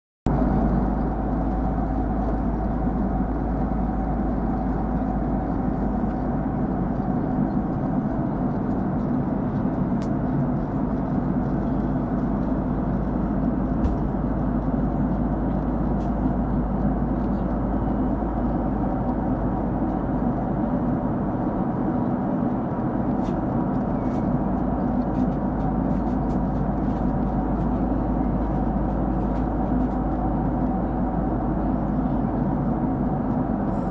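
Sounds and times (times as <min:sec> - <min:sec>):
airplane cabin drone: 0:00.3 - 0:33.9.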